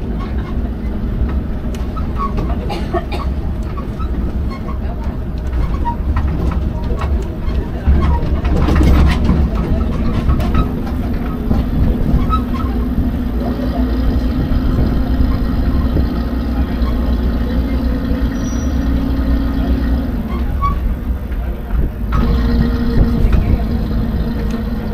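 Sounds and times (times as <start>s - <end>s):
rattles: 0.0s - 24.9s
tram engine humming: 0.0s - 24.9s
wheels rolling over asphalt: 0.0s - 24.9s.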